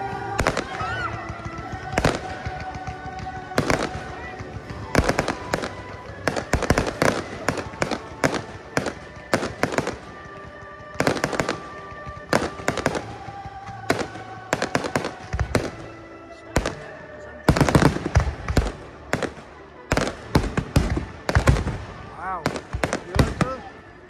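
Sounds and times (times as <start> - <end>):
fireworks bangs: 0.0 - 23.8.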